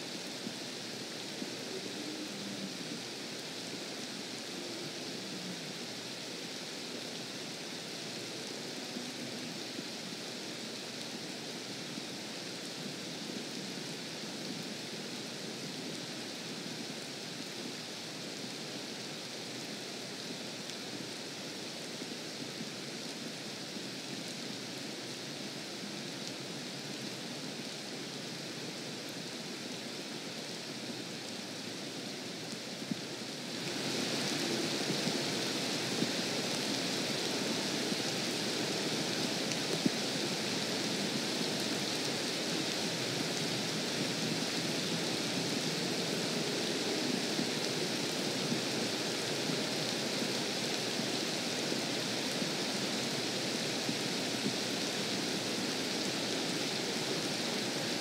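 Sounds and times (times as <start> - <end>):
rain on lake surface: 0.0 - 58.0.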